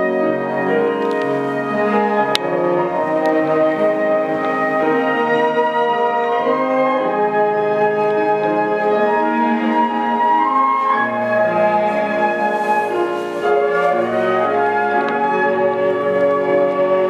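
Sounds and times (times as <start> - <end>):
flute ensemble playing: 0.0 - 17.0.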